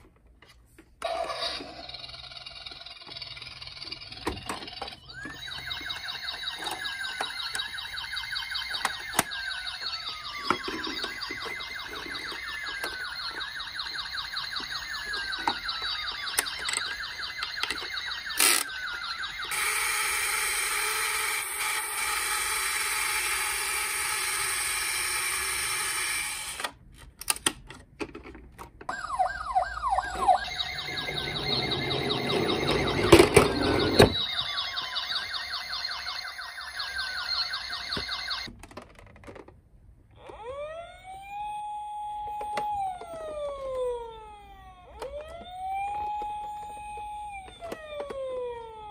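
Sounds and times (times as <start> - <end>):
toy car sirens: 1.0 - 26.8, 28.9 - 38.5, 40.1 - 48.9.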